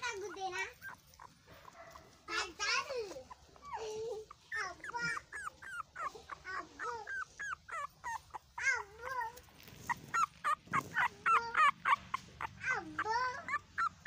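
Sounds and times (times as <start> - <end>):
puppy whimpering and squeaking: 0.0 - 14.0.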